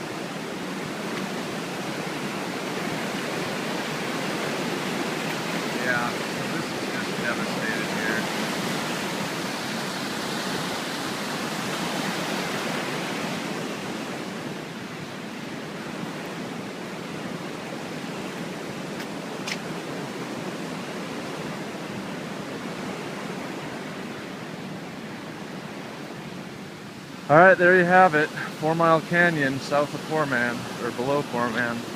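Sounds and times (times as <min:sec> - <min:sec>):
mountain creek rushing: 0:00.0 - 0:31.9.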